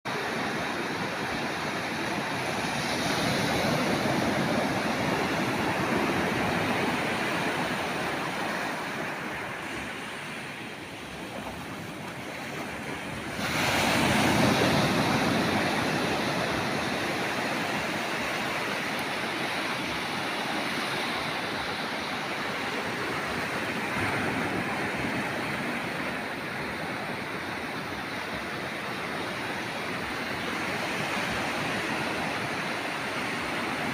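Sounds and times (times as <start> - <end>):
ocean waves washing: 0.1 - 33.9
wave crashing: 0.1 - 33.9.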